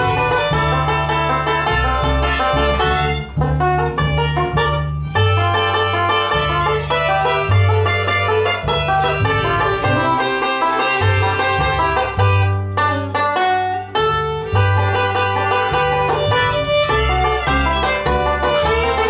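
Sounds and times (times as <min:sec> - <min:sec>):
banjo picking: 0:00.0 - 0:19.0
bowed fiddle: 0:00.0 - 0:19.0
plucked upright bass: 0:00.0 - 0:19.0.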